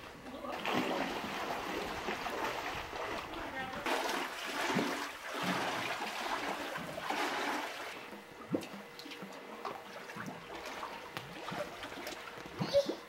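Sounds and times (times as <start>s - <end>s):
water splashing around wading legs: 0.5s - 12.6s.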